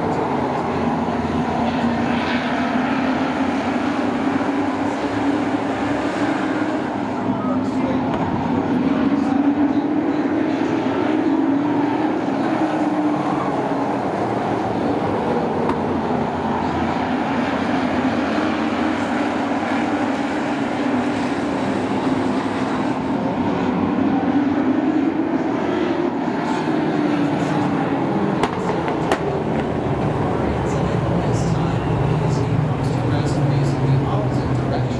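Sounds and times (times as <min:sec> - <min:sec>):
race truck engines droning: 0:00.0 - 0:34.9.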